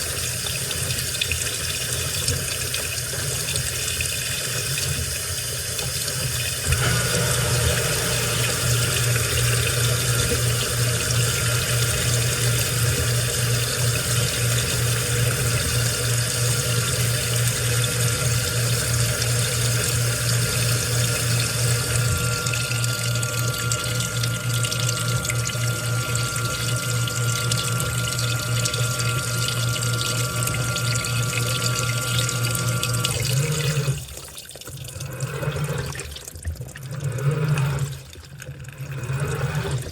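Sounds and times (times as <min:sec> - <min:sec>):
washing machine hum: 0:00.0 - 0:39.9
water rushing in washing machine: 0:00.0 - 0:39.9.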